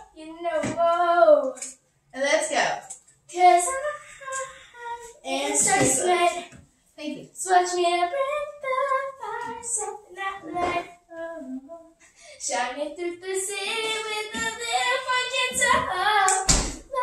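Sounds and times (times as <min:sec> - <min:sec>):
girls and woman singing: 0:00.0 - 0:01.8, 0:03.3 - 0:17.0.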